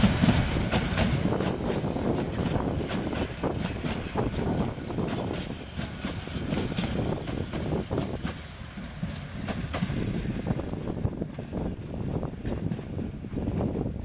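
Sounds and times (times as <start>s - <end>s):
train wheels rumbling on rail: 0.0s - 14.0s
wheels clicking over rail joints: 0.0s - 14.0s.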